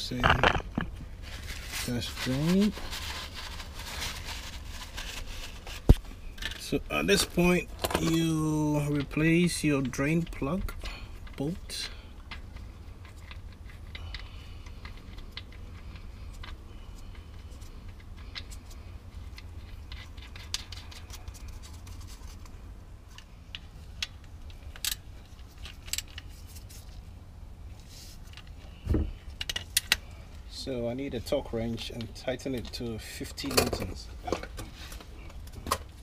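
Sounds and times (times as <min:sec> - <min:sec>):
low steady rumble: 0:00.0 - 0:36.0.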